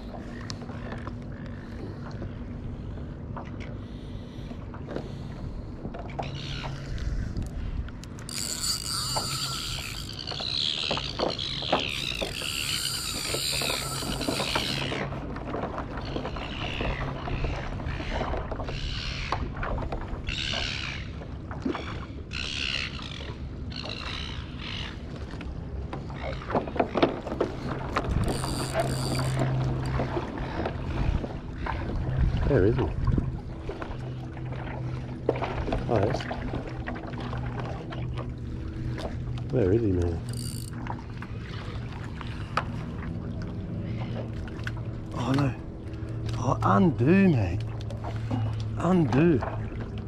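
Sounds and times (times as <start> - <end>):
kayak pedal drive drone: 0.0 - 50.0
squeaky swishes of water: 3.4 - 25.4, 26.0 - 50.0.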